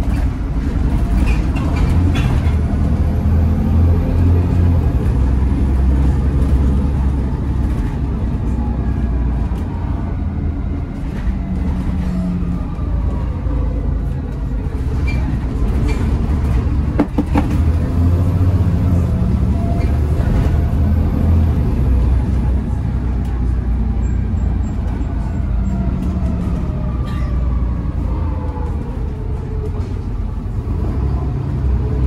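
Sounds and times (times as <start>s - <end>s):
bus diesel engine running: 0.0s - 32.0s
road noise: 0.0s - 32.0s.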